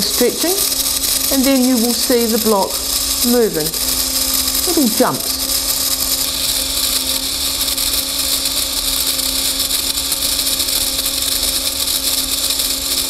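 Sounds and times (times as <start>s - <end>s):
small electric motor running: 0.0s - 13.0s.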